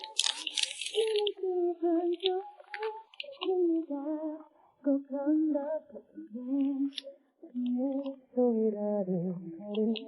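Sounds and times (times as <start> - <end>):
woman singing pop song: 1.0 - 10.0.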